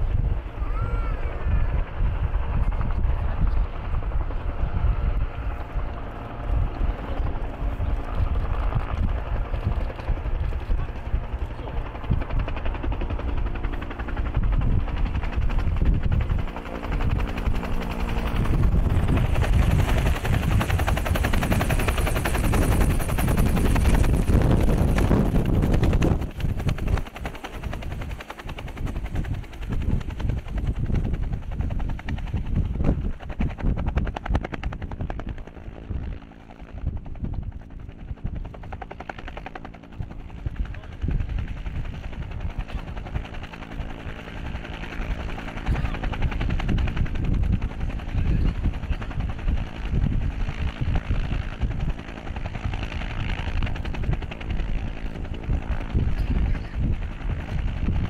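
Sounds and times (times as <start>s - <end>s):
helicopter rotor chop: 0.0s - 58.0s.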